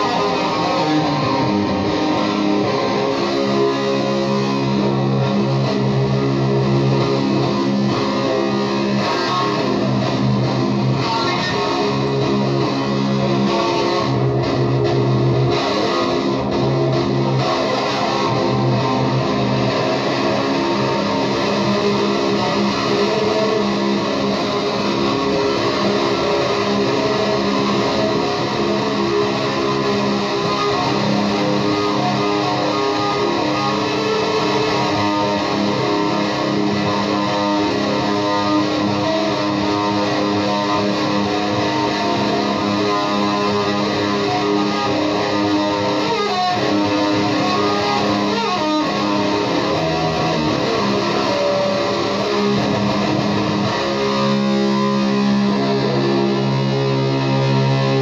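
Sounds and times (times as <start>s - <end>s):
electric guitar noise: 0.0s - 58.0s.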